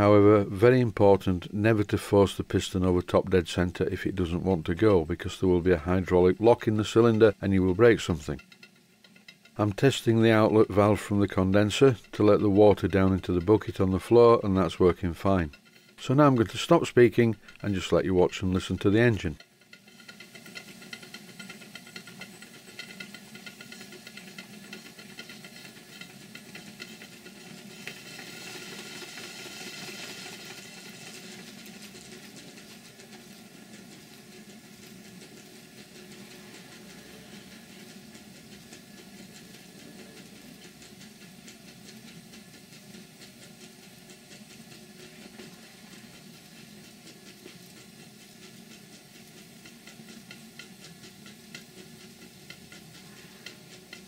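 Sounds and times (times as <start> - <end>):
model steam engine rapid beat: 0.0 - 54.0
steam hissing: 2.0 - 54.0.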